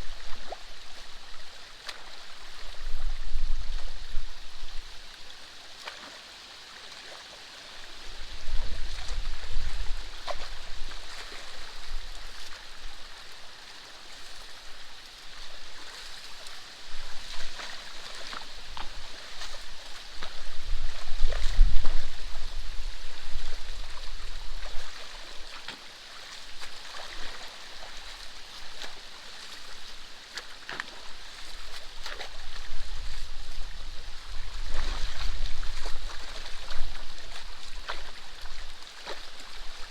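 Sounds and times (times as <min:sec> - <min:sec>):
water trickling over a dam: 0:00.0 - 0:39.9
small clicks and splashes: 0:00.2 - 0:04.1, 0:04.9 - 0:14.6, 0:15.4 - 0:22.0, 0:23.8 - 0:33.6, 0:34.2 - 0:39.9.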